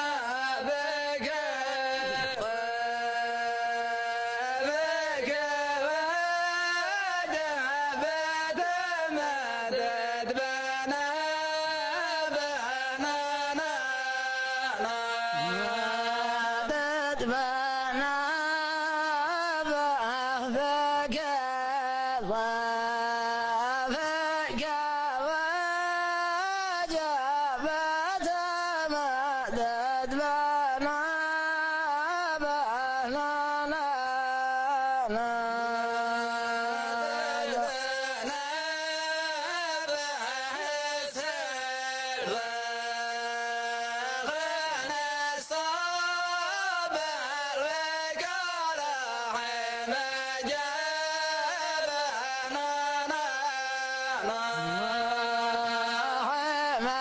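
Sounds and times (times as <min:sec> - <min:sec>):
person singing slow chant: 0:00.0 - 0:57.0.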